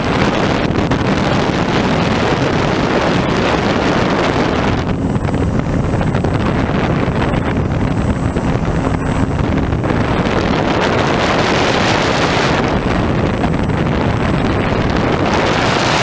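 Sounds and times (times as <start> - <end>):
model plane motor drone: 0.0 - 16.0
wind rushing over microphone: 0.0 - 16.0.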